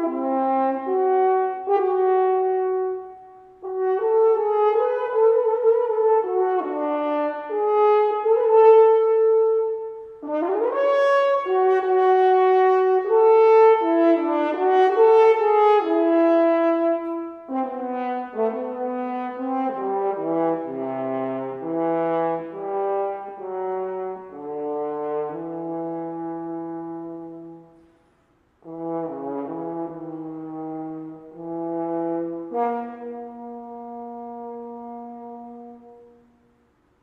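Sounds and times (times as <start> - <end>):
french horn melody: 0.0 - 37.0.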